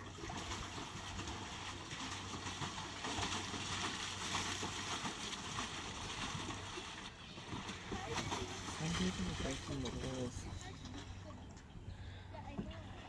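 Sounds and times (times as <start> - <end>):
paddle wheels splashing water: 0.0 - 13.0.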